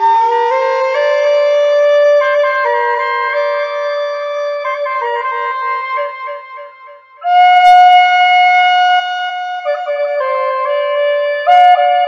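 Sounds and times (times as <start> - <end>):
flute playing slow melody: 0.0 - 12.0.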